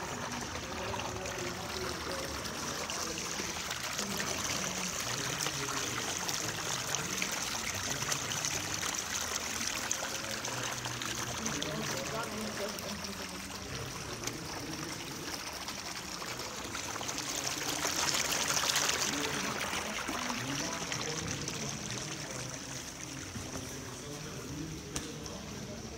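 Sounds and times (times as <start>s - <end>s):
liquid trickling: 0.0s - 25.9s.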